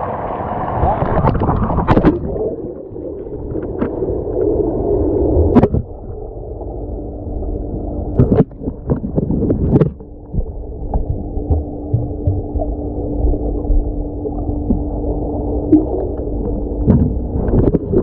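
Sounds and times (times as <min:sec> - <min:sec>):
low steady hum: 0:00.0 - 0:18.0
muffled underwater gurgling: 0:00.6 - 0:18.0.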